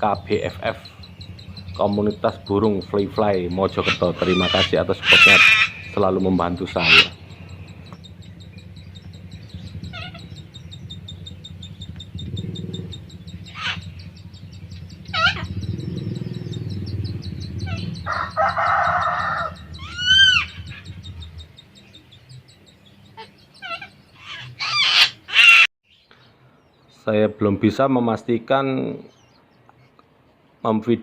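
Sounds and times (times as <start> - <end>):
harsh rasping bird call: 0.0 - 22.0, 22.9 - 25.7
steady low hum: 0.0 - 25.6
bird squawks: 0.0 - 25.7
rising-and-falling bird call: 0.0 - 25.7.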